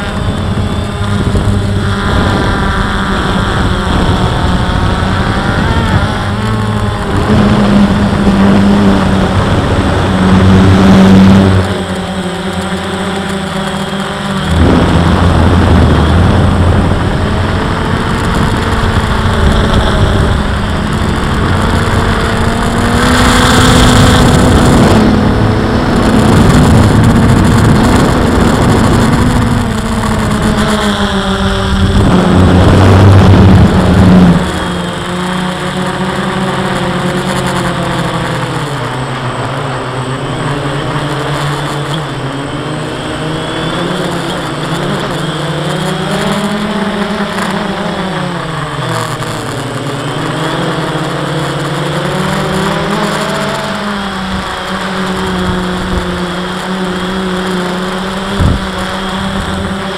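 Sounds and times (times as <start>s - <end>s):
drone propellers humming: 0.0s - 59.9s
wind buffeting microphone: 0.0s - 59.9s.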